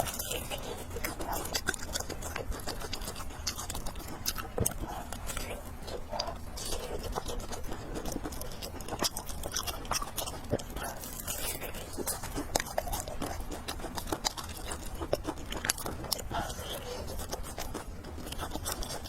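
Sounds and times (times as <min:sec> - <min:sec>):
chewing and slurping noodles: 0:00.0 - 0:19.0.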